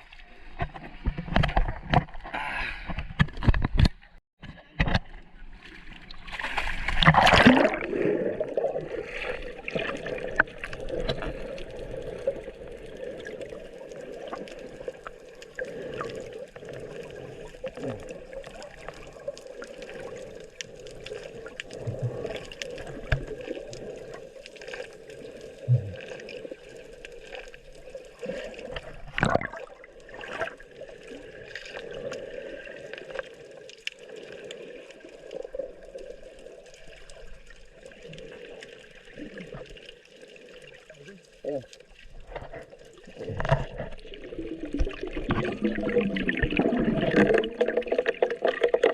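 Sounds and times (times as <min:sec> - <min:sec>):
water gurgling and trickling: 0:00.0 - 0:48.9.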